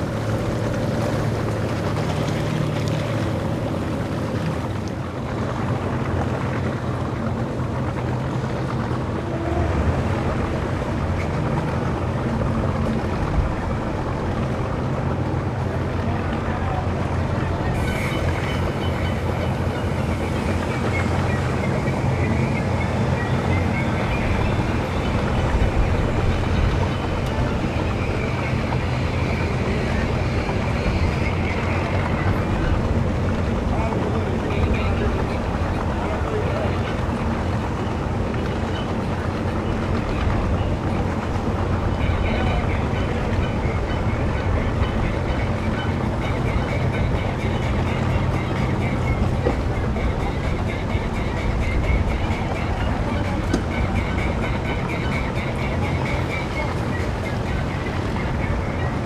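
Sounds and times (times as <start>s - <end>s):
boat engine humming: 0.0s - 59.0s
water noise: 0.0s - 59.0s
wind on microphone: 0.0s - 59.0s.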